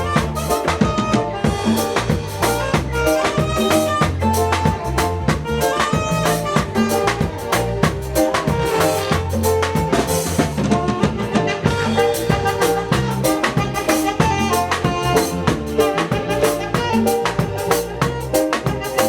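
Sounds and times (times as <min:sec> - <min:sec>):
drum kit beat: 0:00.0 - 0:19.0
live band playing: 0:00.0 - 0:19.0.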